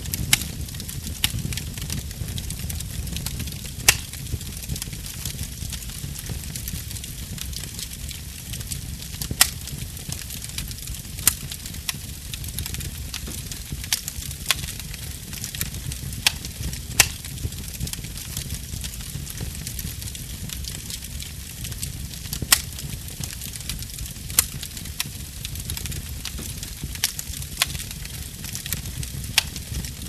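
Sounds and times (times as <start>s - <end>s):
burning wood crackling: 0.0s - 30.0s.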